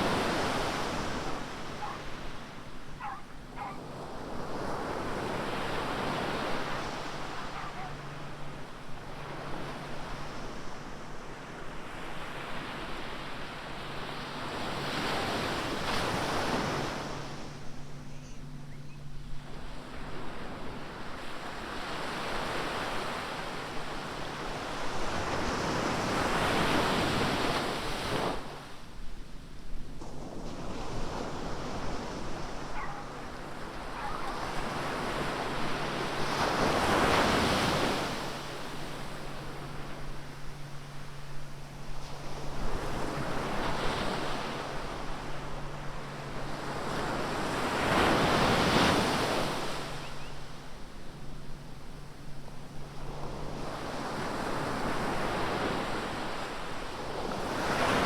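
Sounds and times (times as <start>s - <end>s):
ocean waves breaking on beach: 0.0s - 29.0s, 29.8s - 58.0s.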